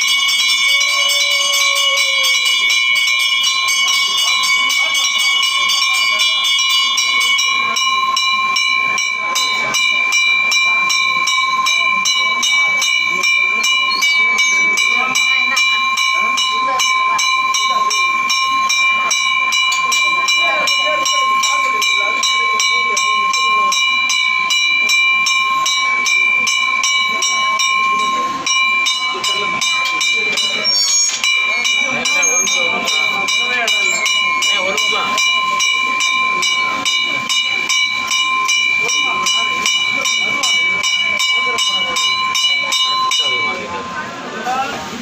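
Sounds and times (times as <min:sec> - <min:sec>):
faint voices: 0:00.0 - 0:45.0
temple bell ringing: 0:00.0 - 0:45.0.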